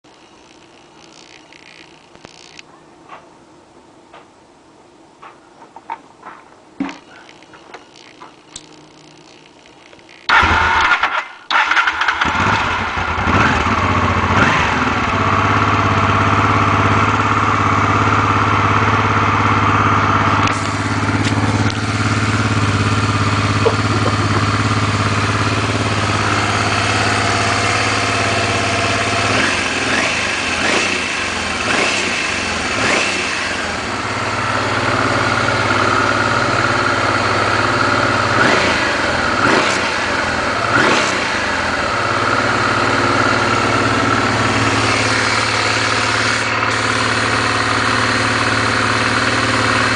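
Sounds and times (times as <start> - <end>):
motorcycle engine starting and idling: 0.0 - 2.7, 6.8 - 49.9.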